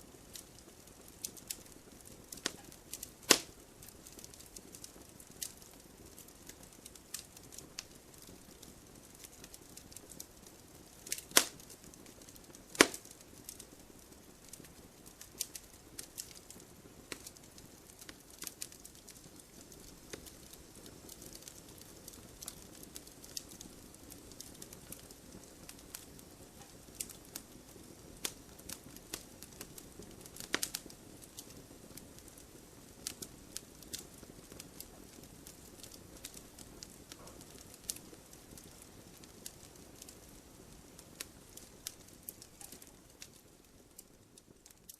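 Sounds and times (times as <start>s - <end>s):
firewood crackling and popping: 0.0s - 44.9s
low rush of flame: 0.1s - 44.9s.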